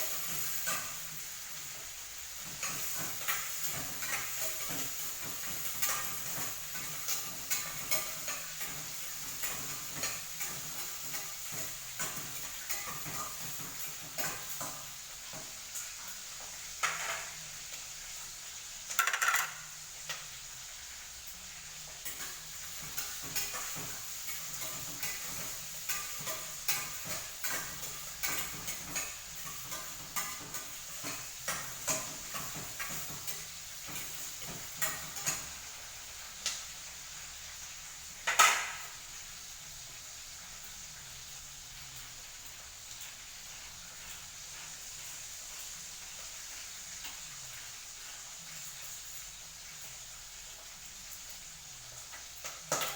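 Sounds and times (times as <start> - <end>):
food sizzling: 0.0 - 52.9.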